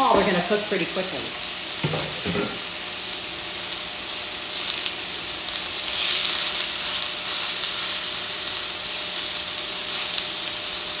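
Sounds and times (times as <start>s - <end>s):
chicken and onions sizzling in oil: 0.0s - 11.0s.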